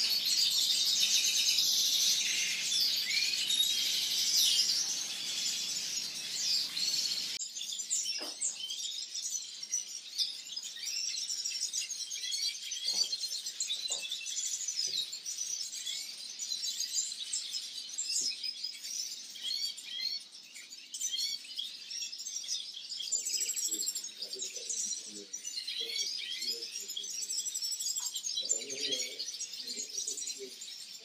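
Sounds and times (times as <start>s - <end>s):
many small birds chirping: 0.0s - 31.0s.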